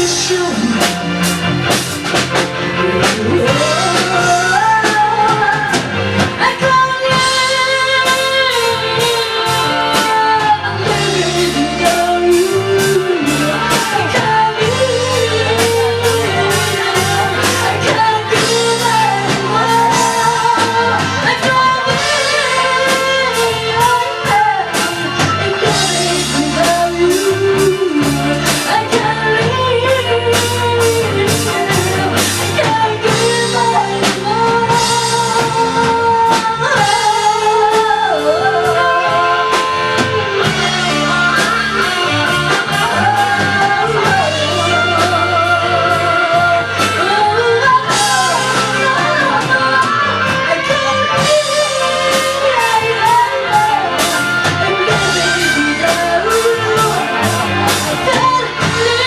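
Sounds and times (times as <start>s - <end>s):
bass guitar: 0.0s - 59.0s
drum kit: 0.0s - 59.0s
electric guitar: 0.0s - 59.0s
person singing: 0.0s - 59.0s.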